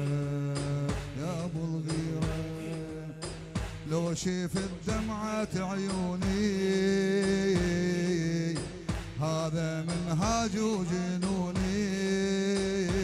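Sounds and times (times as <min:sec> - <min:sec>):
regular beat: 0:00.0 - 0:13.0.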